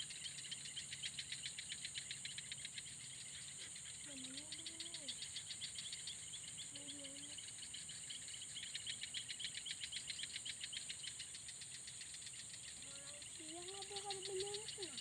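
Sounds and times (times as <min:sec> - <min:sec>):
high-pitched insect hiss: 0:00.0 - 0:15.0
insects pulsing trill: 0:00.0 - 0:15.0.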